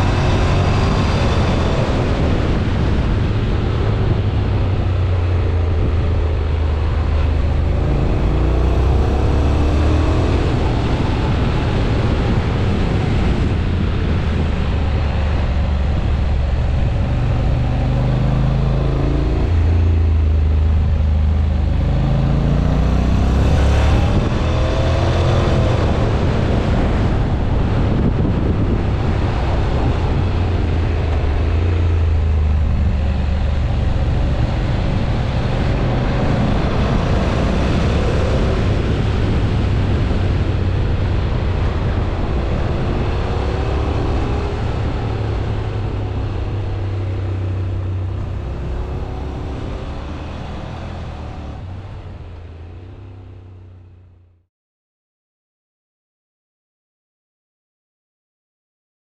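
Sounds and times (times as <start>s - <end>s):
motorcycle engine revving: 0.0s - 54.3s
wind and road noise: 0.0s - 54.5s.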